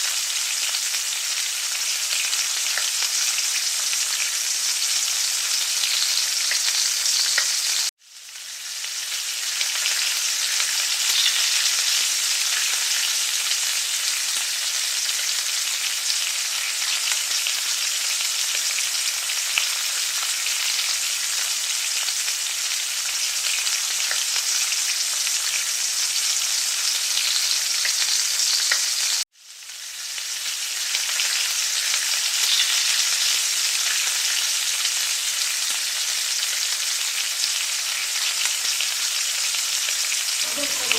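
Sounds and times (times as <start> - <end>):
patties sizzling in hot oil: 0.0 - 40.9.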